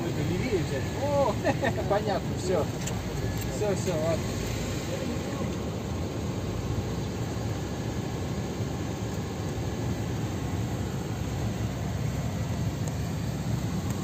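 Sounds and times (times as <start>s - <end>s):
engine and tyre rumble in car: 0.0s - 14.0s.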